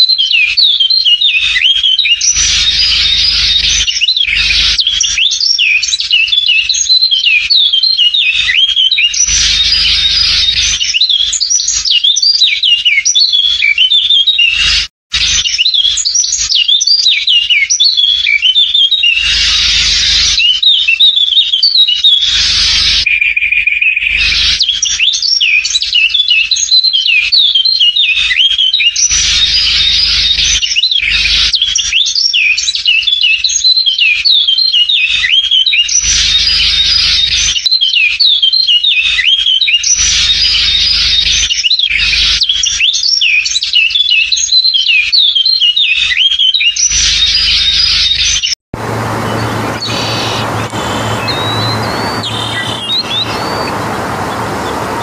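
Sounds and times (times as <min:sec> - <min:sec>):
flock of small birds chirping: 0:00.1 - 0:55.0.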